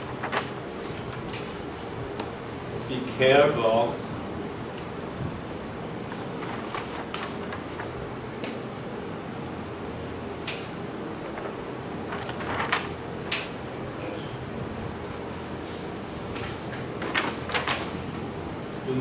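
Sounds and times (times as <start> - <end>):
steady room hum: 0.0 - 19.0.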